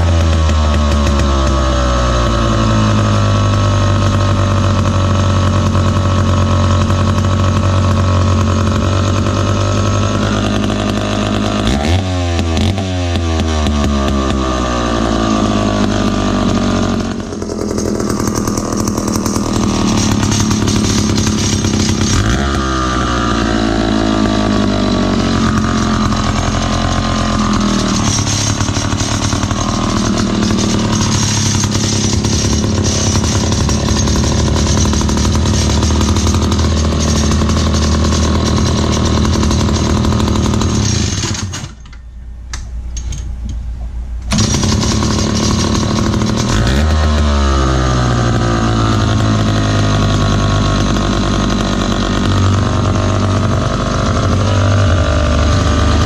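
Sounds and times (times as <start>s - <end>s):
two-stroke engine revving: 0.0s - 41.8s, 44.2s - 56.0s.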